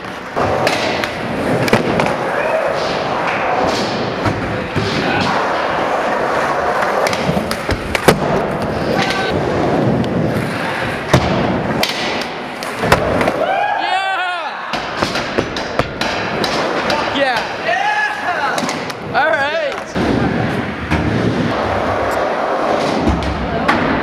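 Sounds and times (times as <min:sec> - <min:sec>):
skateboard wheels rolling on concrete: 0:00.0 - 0:13.8, 0:14.9 - 0:24.0.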